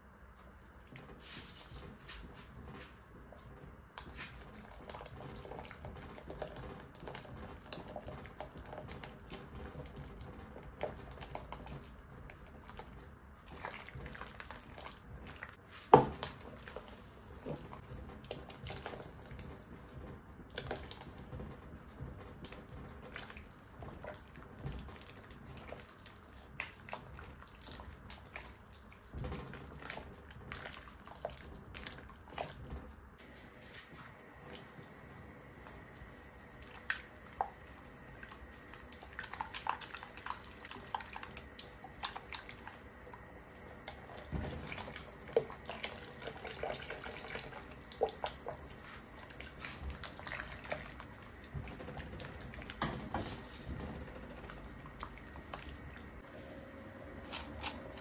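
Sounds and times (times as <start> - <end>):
liquid pouring and splashing: 4.0 - 32.8, 36.5 - 58.0.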